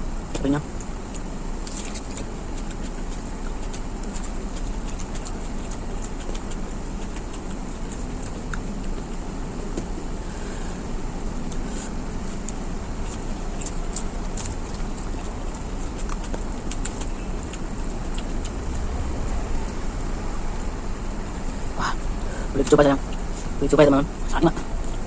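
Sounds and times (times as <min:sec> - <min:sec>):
rushing background noise: 0:00.0 - 0:25.0
chewing: 0:00.3 - 0:25.0.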